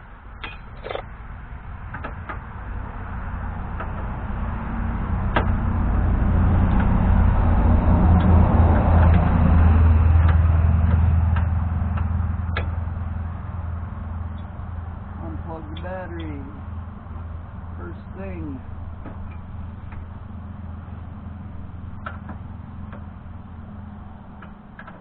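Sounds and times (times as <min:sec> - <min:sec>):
vehicle driving past: 0:02.5 - 0:24.8.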